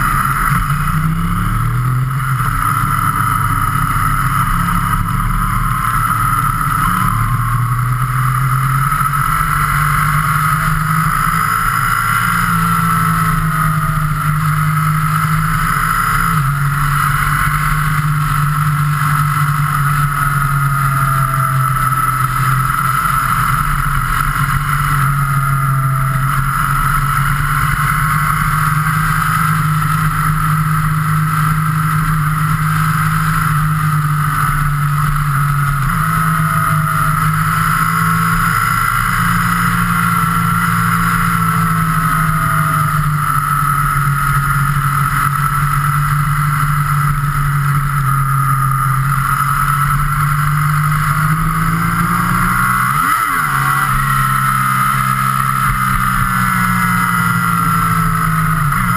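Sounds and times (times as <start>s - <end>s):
motorcycle engine cruising: 0.0s - 58.9s
wind and road noise: 0.0s - 58.9s.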